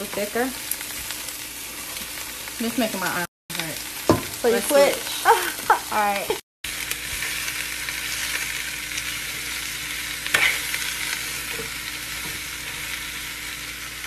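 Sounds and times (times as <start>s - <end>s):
cabbage sizzling in a pan: 0.0s - 14.0s.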